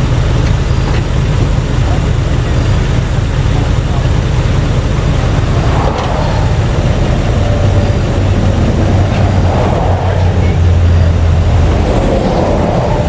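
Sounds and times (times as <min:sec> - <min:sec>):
highway traffic passing: 0:00.0 - 0:13.0
low traffic rumble: 0:00.0 - 0:13.0.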